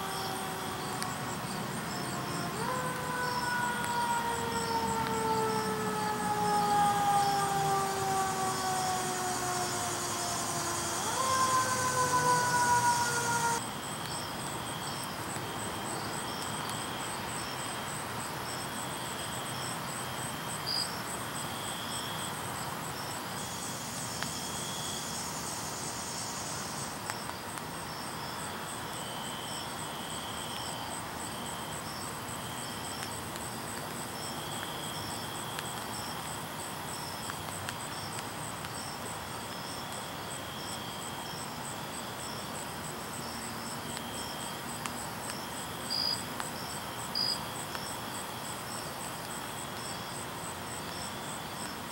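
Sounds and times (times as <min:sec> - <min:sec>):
insect trills: 0:00.0 - 0:51.9
insects chirping: 0:00.0 - 0:51.9
steady hiss: 0:00.0 - 0:51.9.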